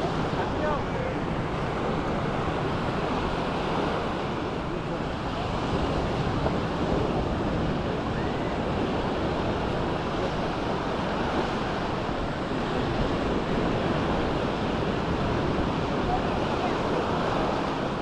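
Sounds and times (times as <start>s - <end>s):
waves washing onto beach: 0.0s - 18.0s
wind buffeting microphone: 0.0s - 18.0s.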